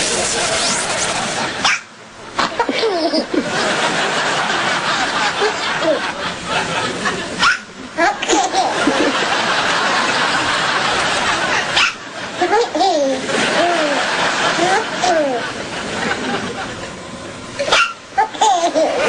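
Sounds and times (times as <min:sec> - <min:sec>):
people laughing: 0:00.0 - 0:19.0.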